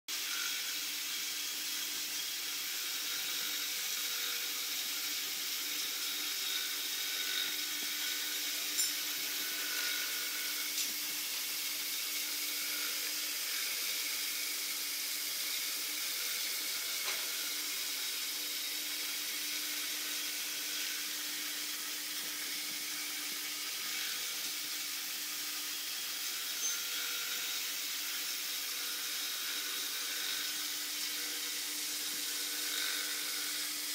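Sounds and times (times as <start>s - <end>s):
milling machine cutting hiss: 0.1s - 33.9s.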